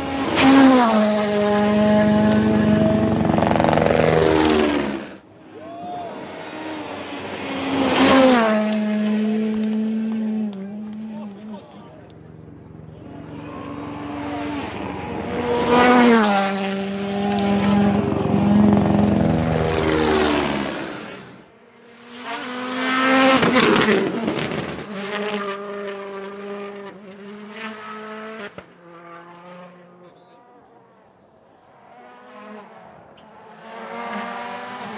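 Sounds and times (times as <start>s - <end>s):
rally car engine at full throttle: 0.0s - 5.3s, 6.1s - 34.9s.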